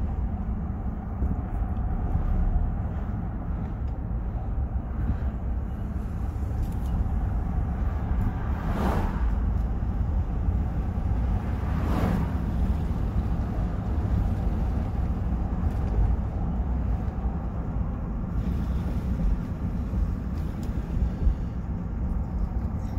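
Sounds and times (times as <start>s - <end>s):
rushing noise: 0.0s - 21.9s
road and engine rumble in cabin: 0.0s - 22.9s.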